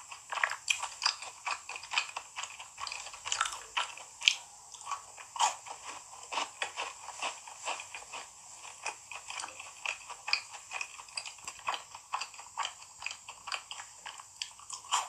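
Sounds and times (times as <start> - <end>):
chewing and biting: 0.0 - 15.0.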